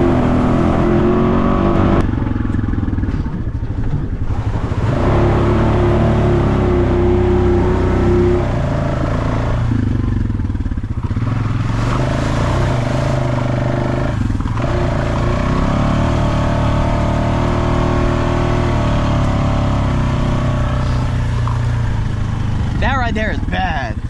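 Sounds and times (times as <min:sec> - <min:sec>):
off-road vehicle engine: 0:00.0 - 0:24.0.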